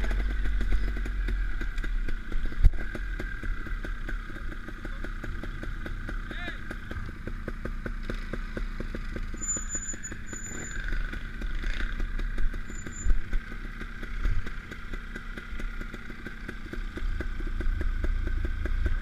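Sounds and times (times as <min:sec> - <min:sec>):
bike knocking and rattling: 0:00.0 - 0:19.0
motorcycle engine at low revs: 0:00.0 - 0:19.0.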